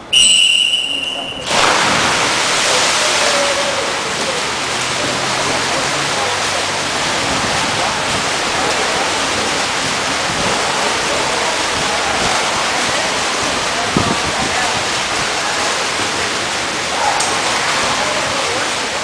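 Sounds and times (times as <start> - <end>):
swimmers splashing: 0.0 - 19.0.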